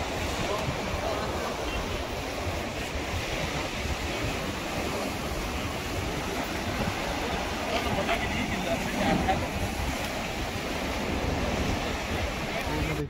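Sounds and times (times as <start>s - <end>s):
sea waves washing onto shore: 0.0s - 13.0s
wind rumbling on microphone: 0.0s - 13.0s.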